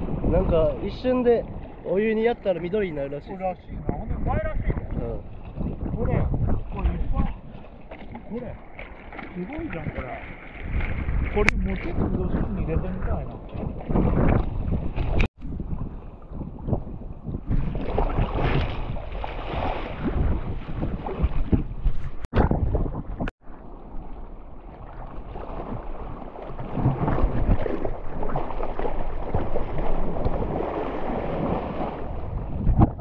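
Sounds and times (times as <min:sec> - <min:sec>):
sea water sloshing and splashing: 0:00.0 - 0:33.0
wind on microphone: 0:00.0 - 0:33.0.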